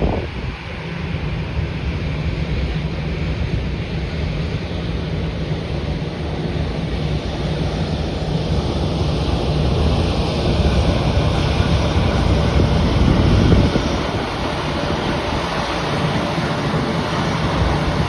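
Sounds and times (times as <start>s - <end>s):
wind buffeting microphone: 0.0s - 3.5s, 5.5s - 18.0s
jet engine roar: 0.0s - 18.0s.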